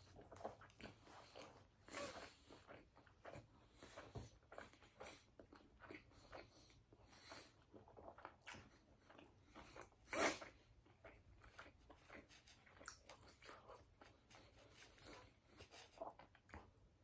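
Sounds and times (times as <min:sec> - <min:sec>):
chewing with crunches: 0:00.0 - 0:17.0.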